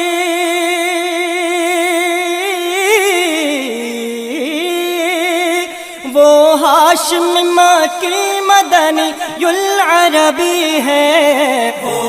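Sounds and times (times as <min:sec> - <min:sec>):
solo voice singing unaccompanied: 0:00.0 - 0:12.0.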